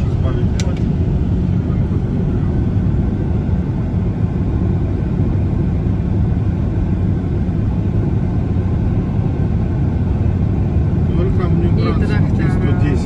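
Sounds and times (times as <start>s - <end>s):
car driving on road rumble: 0.0s - 13.0s.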